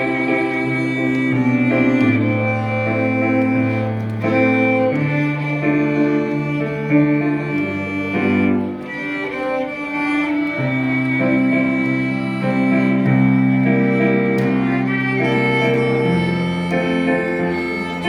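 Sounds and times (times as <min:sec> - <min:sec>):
bowed string ensemble: 0:00.0 - 0:18.0.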